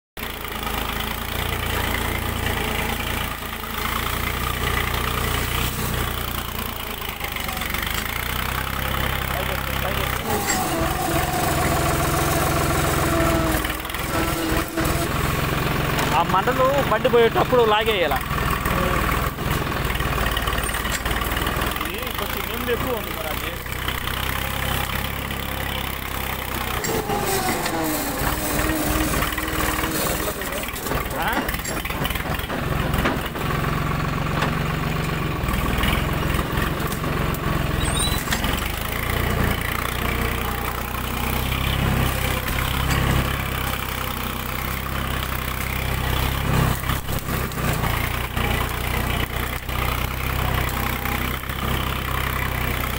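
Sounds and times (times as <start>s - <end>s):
tractor engine running: 0.2s - 52.9s.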